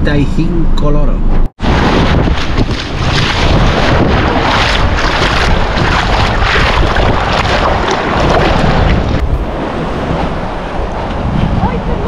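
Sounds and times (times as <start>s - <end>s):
seawater sloshing and splashing: 1.6s - 11.4s
wind buffeting microphone: 1.6s - 12.0s.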